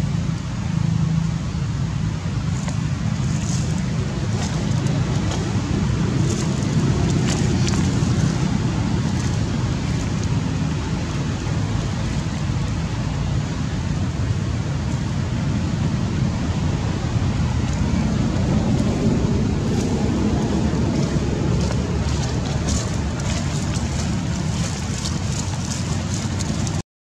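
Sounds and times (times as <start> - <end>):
low rumbling background noise: 0.0 - 26.8.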